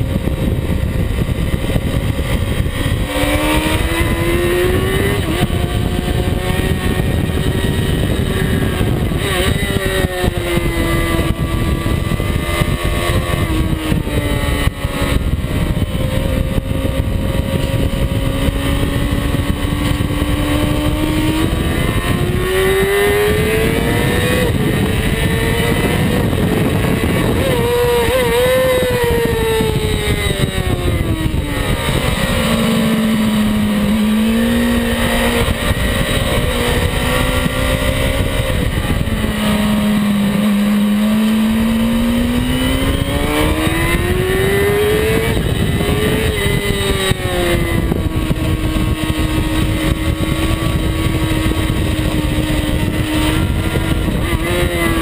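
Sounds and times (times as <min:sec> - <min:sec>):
motorcycle engine at high revs: 0:00.0 - 0:55.0
wind rushing over microphone: 0:00.0 - 0:55.0.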